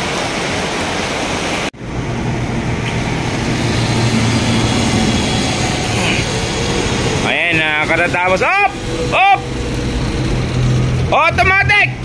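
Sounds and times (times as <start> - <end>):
heavy rain pouring: 1.5 - 12.0
truck engine idling: 1.8 - 12.0.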